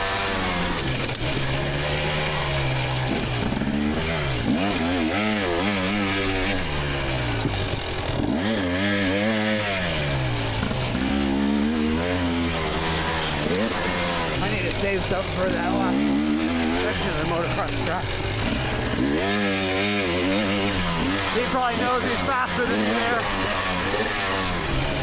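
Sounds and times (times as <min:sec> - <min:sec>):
two-stroke dirt bike engine revving: 0:00.0 - 0:25.0.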